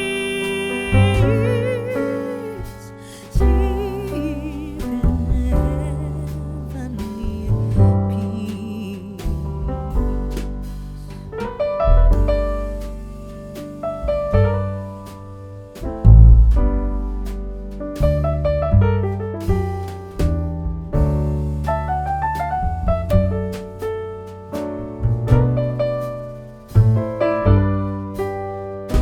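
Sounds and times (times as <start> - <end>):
piano background music: 0.0 - 29.0.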